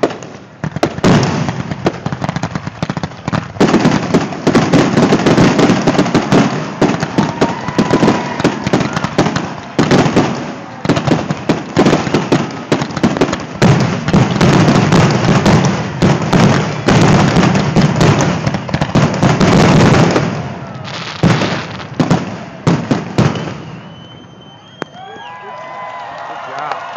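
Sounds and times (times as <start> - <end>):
fireworks bursting: 0.0 - 25.2.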